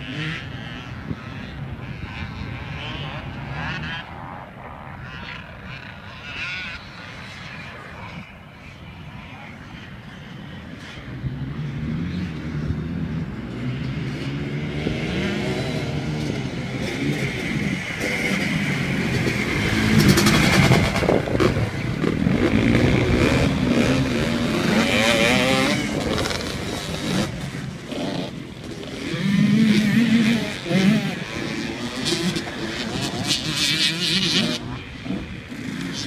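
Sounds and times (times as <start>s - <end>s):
quad bike engines revving: 0.0s - 36.0s.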